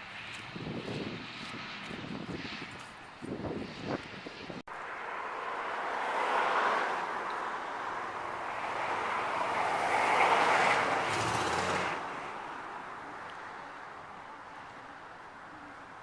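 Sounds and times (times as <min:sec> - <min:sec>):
passing vehicle and tyre noise: 0:00.0 - 0:16.0.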